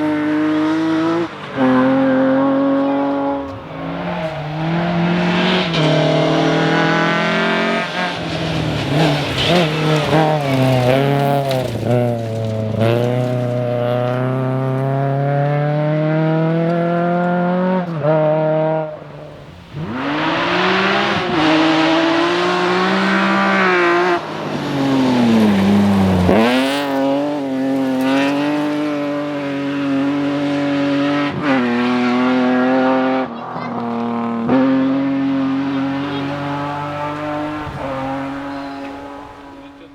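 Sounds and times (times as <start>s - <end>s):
rally car engine at full throttle: 0.0s - 39.9s.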